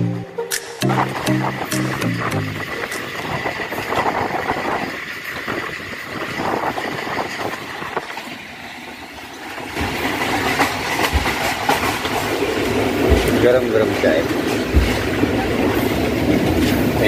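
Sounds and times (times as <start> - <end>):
train carriage rumble and rattle: 0.0 - 17.0.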